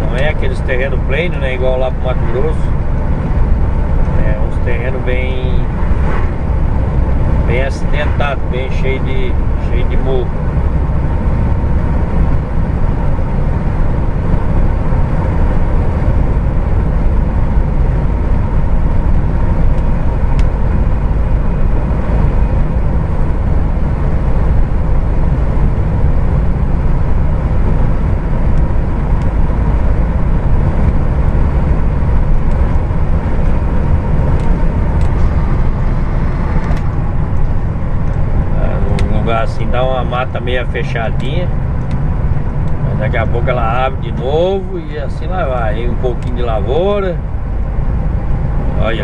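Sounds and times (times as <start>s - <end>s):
faint steady whine: 0.0s - 49.0s
truck engine and road rumble: 0.0s - 49.0s.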